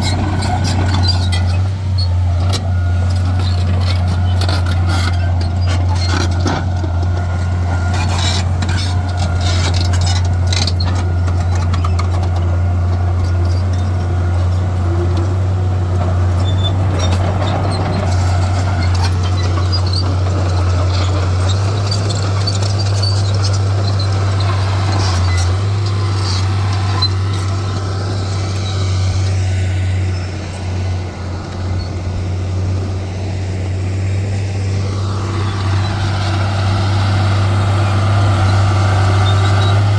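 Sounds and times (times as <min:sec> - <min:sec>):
heavy diesel machinery engine drone: 0:00.0 - 0:39.9.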